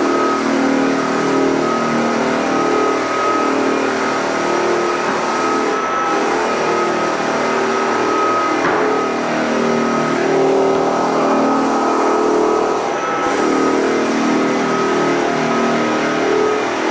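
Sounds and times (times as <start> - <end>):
electric floor sander running: 0.0 - 16.9.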